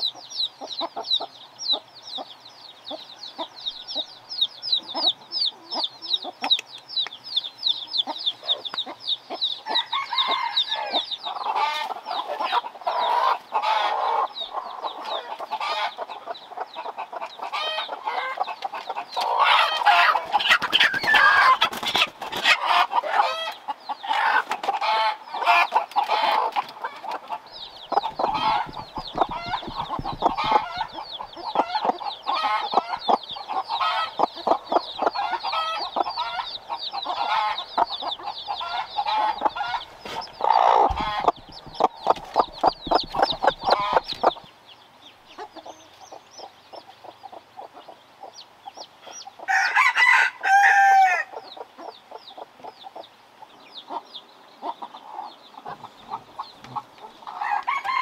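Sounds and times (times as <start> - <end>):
chicks peeping: 0.0 - 58.0
hen clucking: 0.0 - 58.0.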